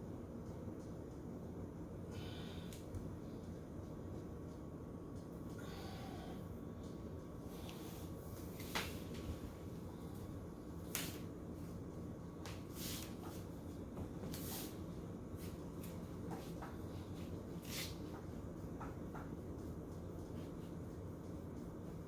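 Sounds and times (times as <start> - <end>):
low steady hum: 0.0 - 22.0
soft rustling brushes: 3.1 - 22.0.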